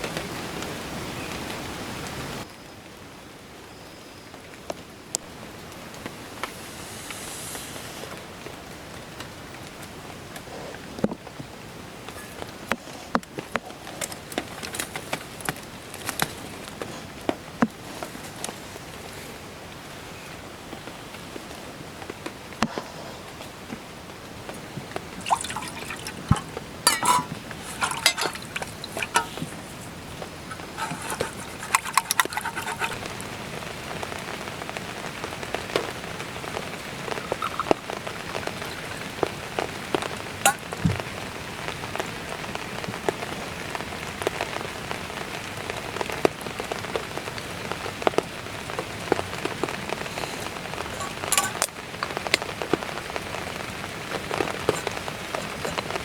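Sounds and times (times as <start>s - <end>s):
rain drops tapping: 0.0s - 2.4s, 4.6s - 6.6s, 8.1s - 22.7s, 23.5s - 56.0s.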